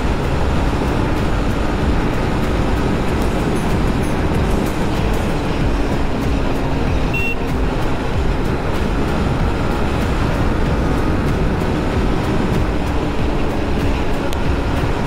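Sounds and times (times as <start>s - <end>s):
motorcycle engine cruising: 0.0s - 15.0s
wind noise on microphone: 0.0s - 15.0s.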